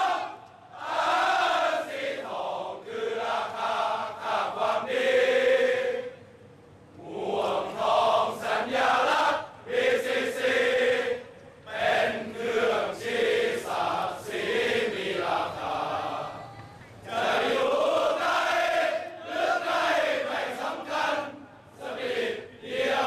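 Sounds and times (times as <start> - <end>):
crowd singing a chant: 0.0 - 6.2, 7.0 - 23.0.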